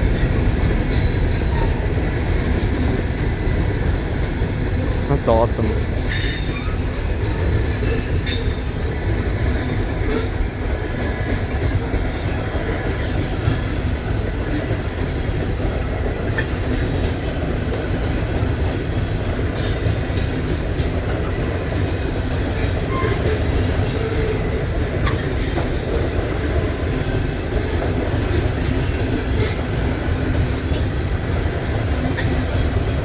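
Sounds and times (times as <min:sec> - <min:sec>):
train wheel squeals: 0:00.0 - 0:04.4, 0:06.0 - 0:15.4, 0:16.0 - 0:33.0
steel wheels rumbling on rail: 0:00.0 - 0:33.0.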